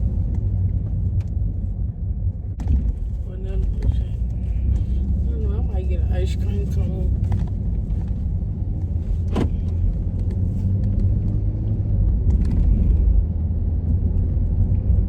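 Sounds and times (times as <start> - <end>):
car cabin road rumble: 0.0 - 15.0.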